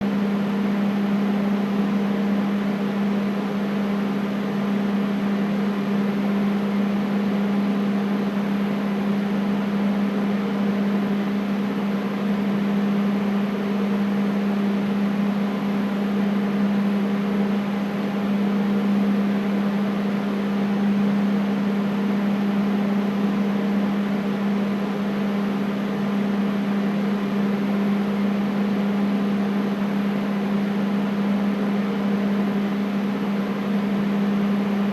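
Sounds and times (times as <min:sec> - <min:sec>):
air conditioner running: 0:00.0 - 0:34.9.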